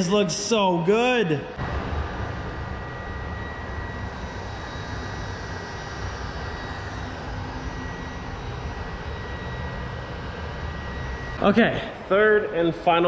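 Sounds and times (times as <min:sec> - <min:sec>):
constant high whine: 0:00.0 - 0:13.0
machinery low rumble: 0:00.0 - 0:13.0.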